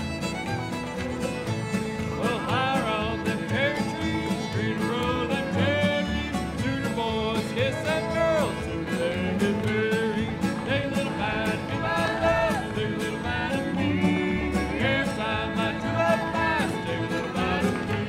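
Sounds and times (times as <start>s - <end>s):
fiddle melody: 0.0s - 18.0s
guitar and bass rhythm: 0.0s - 18.0s.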